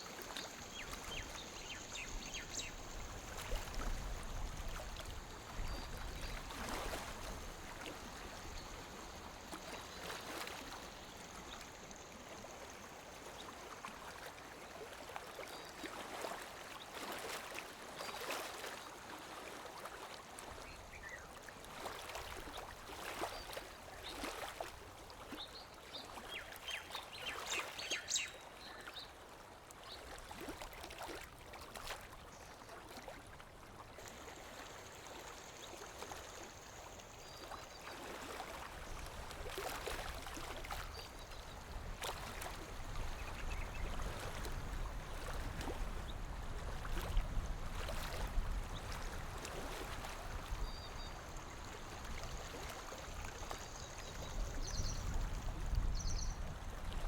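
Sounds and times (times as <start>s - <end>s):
small waves lapping on shore: 0.0s - 57.0s.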